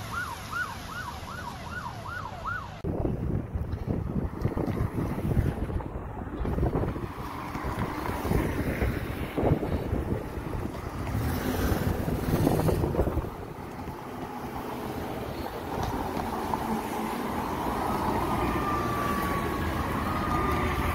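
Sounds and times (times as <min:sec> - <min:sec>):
street traffic rumble: 0:00.0 - 0:20.9
wind buffeting microphone: 0:02.8 - 0:20.9.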